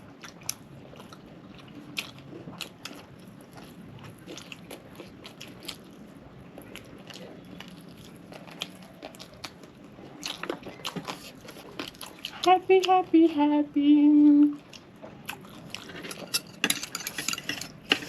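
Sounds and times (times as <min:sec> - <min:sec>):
chewing crispy fried chicken: 0:00.0 - 0:13.0, 0:14.5 - 0:16.4.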